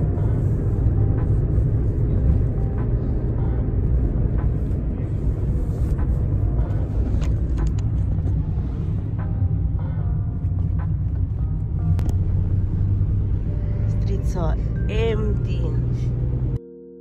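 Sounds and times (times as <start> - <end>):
car rumble from inside cabin: 0.0 - 16.6.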